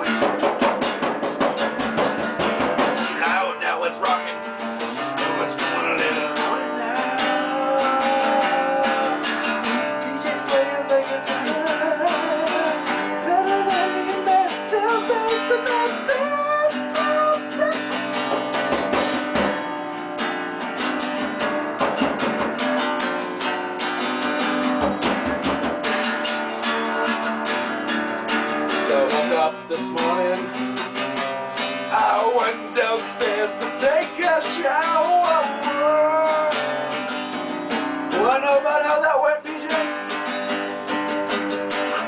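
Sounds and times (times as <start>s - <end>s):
strummed guitar chords: 0.0s - 42.0s
wavering guitar melody: 0.0s - 42.0s.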